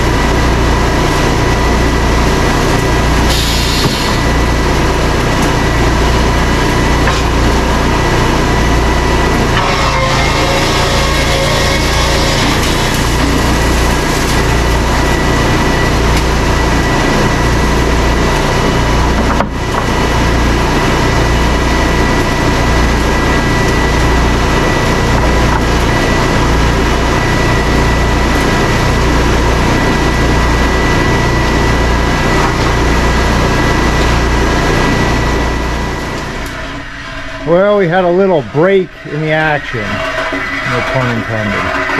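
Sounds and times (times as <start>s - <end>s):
sawmill machine drone: 0.0s - 41.9s
thin high whine: 0.0s - 41.9s.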